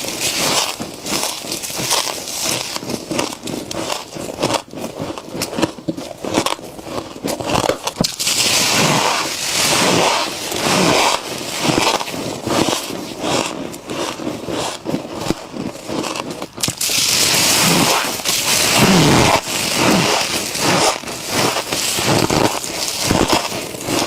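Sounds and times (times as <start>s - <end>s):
crunching and chewing of frost: 0.0s - 24.0s.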